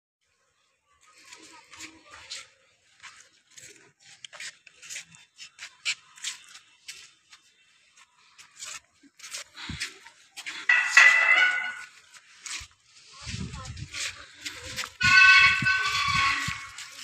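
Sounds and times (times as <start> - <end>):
footsteps on leaves and pavement: 1.0 - 17.0.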